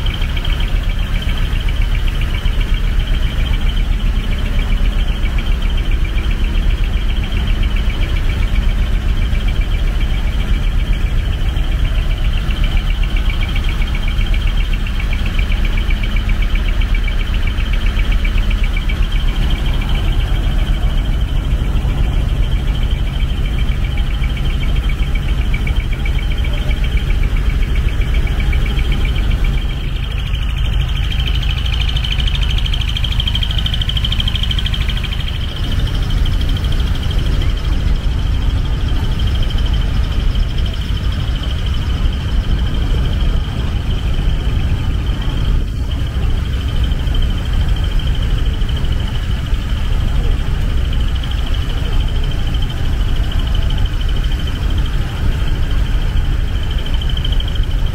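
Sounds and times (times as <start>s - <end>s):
truck engines idling: 0.0s - 57.9s.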